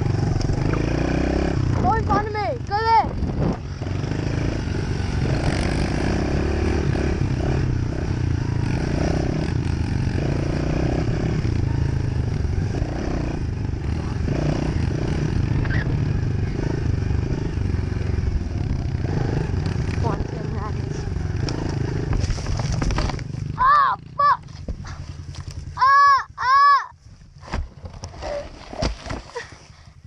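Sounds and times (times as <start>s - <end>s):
dirt bike engine revving: 0.0s - 26.6s.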